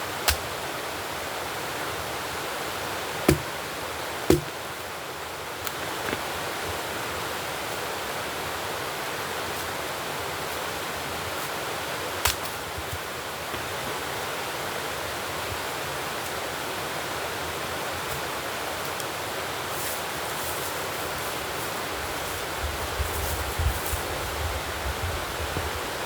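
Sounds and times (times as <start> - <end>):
steady rushing hiss: 4.3 - 26.0.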